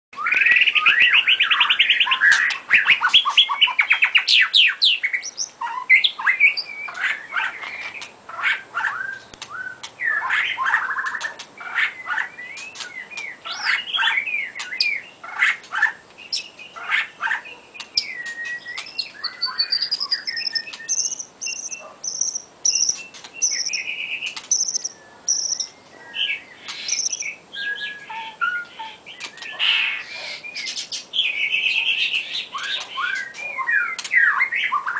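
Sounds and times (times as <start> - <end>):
bird singing trills and whistles: 0.2 - 34.9.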